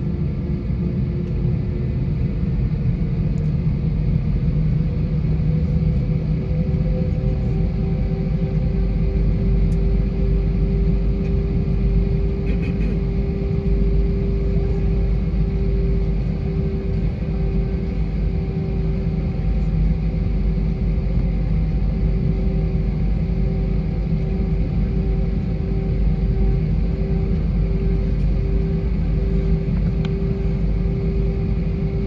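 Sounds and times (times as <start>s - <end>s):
jet cabin low rumble: 0.0s - 32.0s
jet engine hum: 0.0s - 32.0s.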